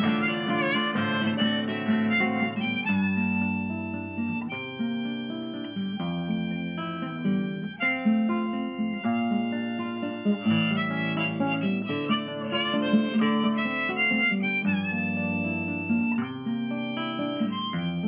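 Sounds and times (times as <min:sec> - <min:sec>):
acoustic guitar: 0:00.0 - 0:18.0
harmonica melody: 0:00.0 - 0:18.0.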